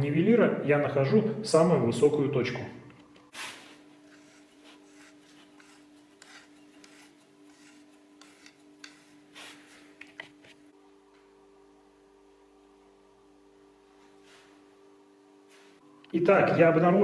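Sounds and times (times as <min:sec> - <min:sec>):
faint steady hum: 0:02.6 - 0:17.0.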